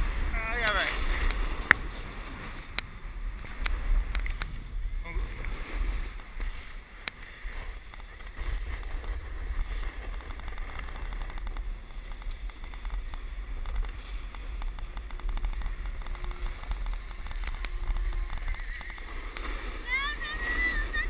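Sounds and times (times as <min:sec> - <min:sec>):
snowboard scraping on snow: 0:00.0 - 0:21.0
wind buffeting microphone: 0:00.0 - 0:21.0.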